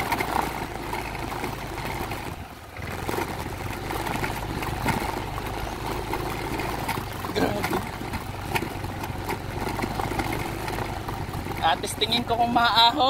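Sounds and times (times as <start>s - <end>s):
scooter engine pulling at low speed: 0.0s - 13.0s.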